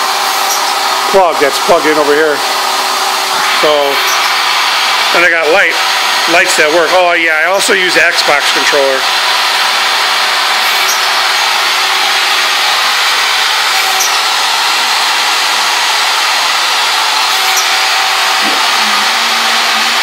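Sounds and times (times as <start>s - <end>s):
workshop machine whirring hiss: 0.0s - 20.0s.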